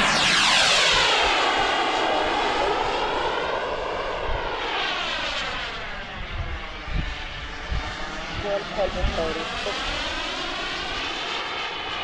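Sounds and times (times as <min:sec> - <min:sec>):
wind rumble on microphone: 0:00.0 - 0:10.2
jet turbine whine passing: 0:00.0 - 0:12.0.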